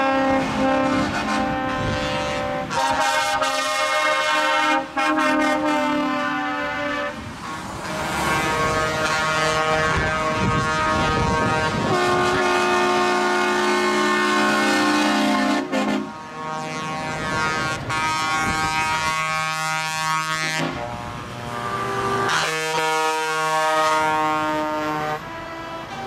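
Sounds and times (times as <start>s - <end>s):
multi-tone horn chord: 0.0s - 26.0s
truck air horns blasting: 0.0s - 26.0s.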